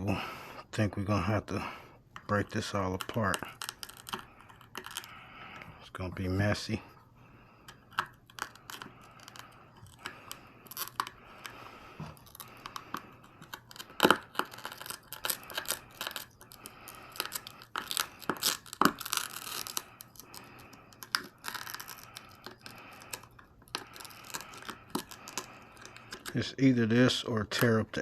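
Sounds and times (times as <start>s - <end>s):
plastic clicking and scraping: 2.1s - 6.7s, 7.6s - 28.0s.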